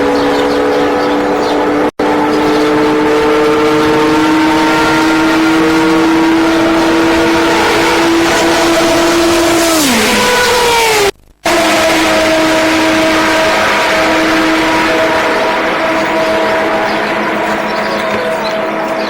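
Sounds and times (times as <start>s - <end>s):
racing car engine at full speed: 0.0s - 19.0s.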